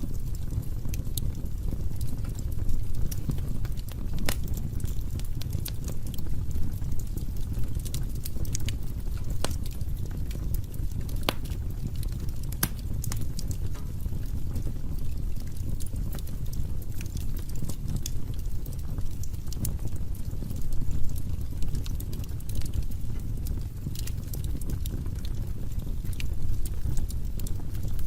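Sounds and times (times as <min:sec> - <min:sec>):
fire crackling and popping: 0:00.0 - 0:28.0
fire rumbling: 0:00.0 - 0:28.0.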